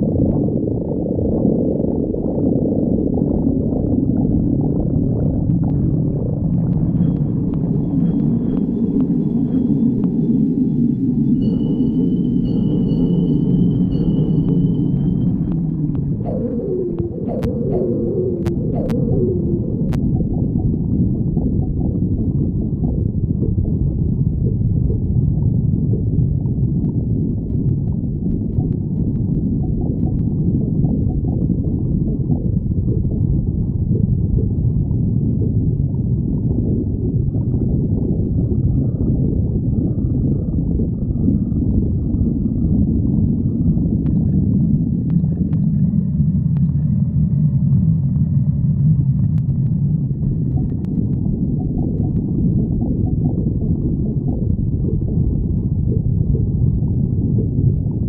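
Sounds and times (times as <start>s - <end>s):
stomach growling: 0.0s - 10.4s, 13.8s - 58.0s.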